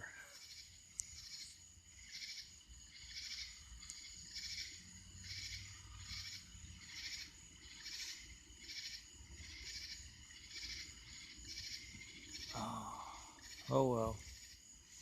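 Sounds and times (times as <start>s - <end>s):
insect buzzy chirp: 0.0s - 15.0s
insect high-pitched trill: 0.0s - 15.0s.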